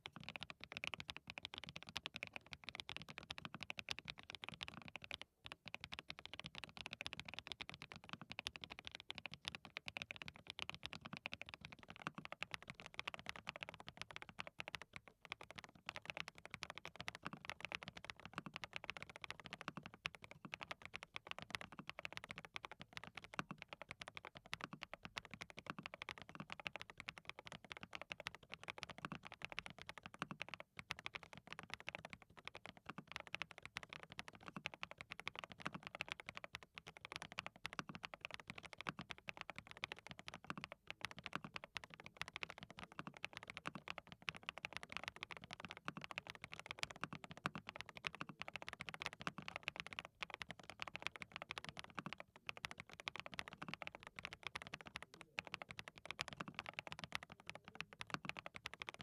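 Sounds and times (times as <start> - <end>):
fast mechanical keyboard typing: 0.0 - 59.0.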